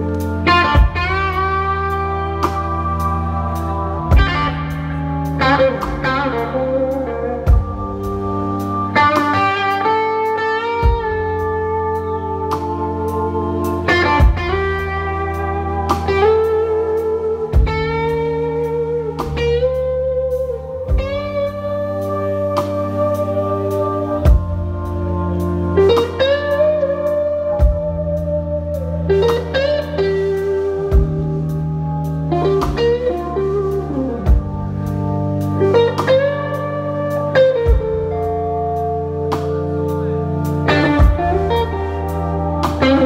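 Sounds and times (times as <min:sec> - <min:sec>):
electric guitar solo: 0:00.0 - 0:43.0
low bass: 0:00.0 - 0:43.0
drum kit with cymbals: 0:00.2 - 0:06.4, 0:12.4 - 0:19.8, 0:20.4 - 0:43.0.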